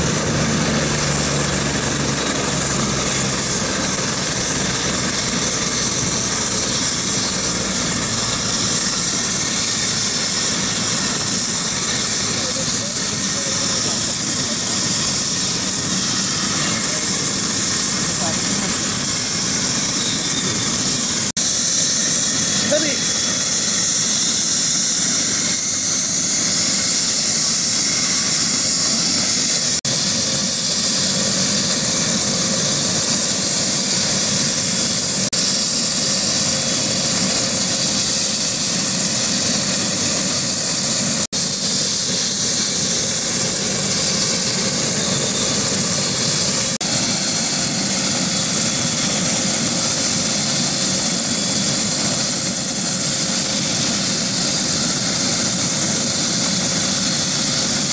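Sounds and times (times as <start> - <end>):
helicopter rotor and turbine: 0.0 - 57.9
high turbine whine: 0.0 - 57.9.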